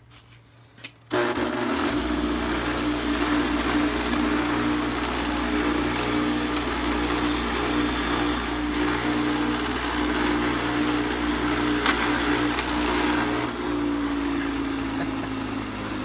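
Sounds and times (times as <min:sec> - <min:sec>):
electric grinder rasping: 0:01.1 - 0:16.0.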